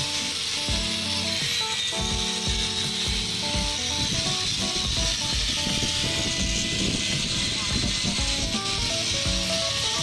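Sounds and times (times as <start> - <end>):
background music with thumping beat: 0.0 - 10.0.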